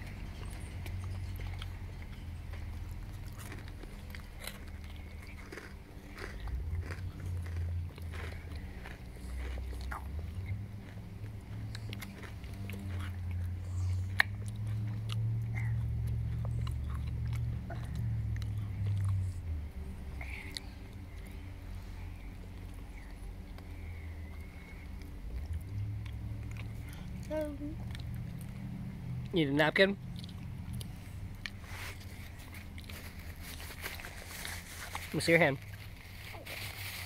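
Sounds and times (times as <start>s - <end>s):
chewing and crunching food: 0.0s - 37.0s
steady low rumble: 0.0s - 37.0s.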